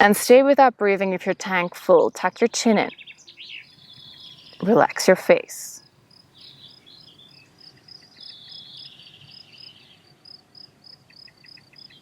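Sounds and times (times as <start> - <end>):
crickets chirping faintly: 2.0 - 12.0.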